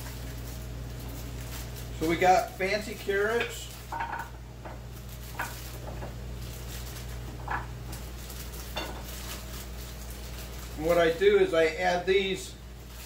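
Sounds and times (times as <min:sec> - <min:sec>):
plastic bag crinkling: 0:00.0 - 0:13.0
steady low hum: 0:00.0 - 0:13.0.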